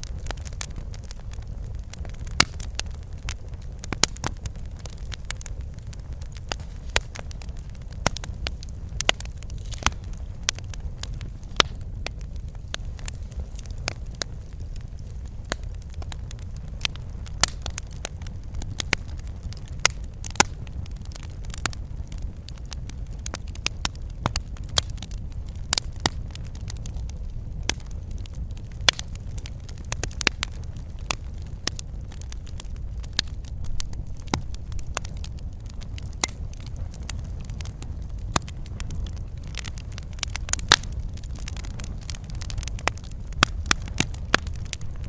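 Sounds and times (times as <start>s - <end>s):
fireplace fire crackling: 0.0s - 45.0s.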